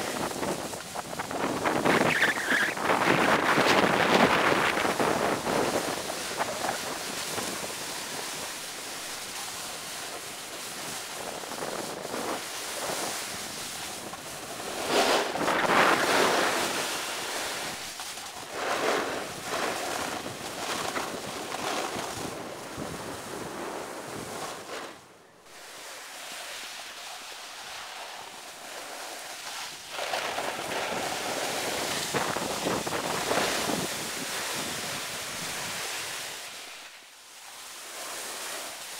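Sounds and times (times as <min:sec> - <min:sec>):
snowboard scraping over snow: 0:00.0 - 0:38.9.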